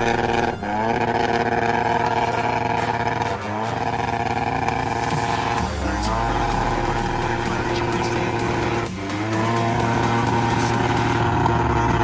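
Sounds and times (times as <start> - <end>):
engine revving high: 0.0 - 12.0.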